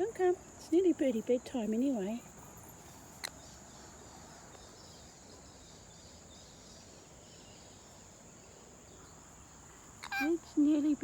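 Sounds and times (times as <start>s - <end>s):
insects droning: 0.0s - 11.0s
quiet outdoor background noise: 0.0s - 11.0s.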